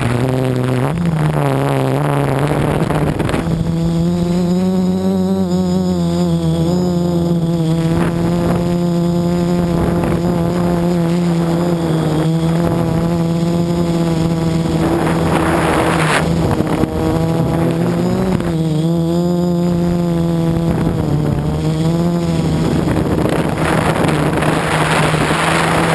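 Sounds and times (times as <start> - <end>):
quadcopter motors whining: 0.0 - 25.9
rush of hissing noise: 2.1 - 18.9, 19.6 - 25.9.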